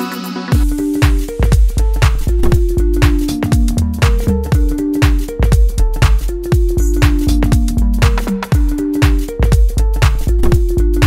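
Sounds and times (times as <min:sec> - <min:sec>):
music with kick-drum beat: 0:00.0 - 0:11.0.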